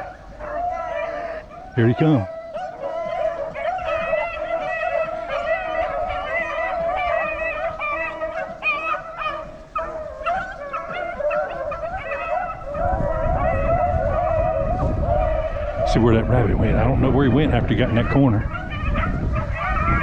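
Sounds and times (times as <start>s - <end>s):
low wind rumble on microphone: 0.0s - 20.0s
pack of dogs baying: 0.0s - 20.0s.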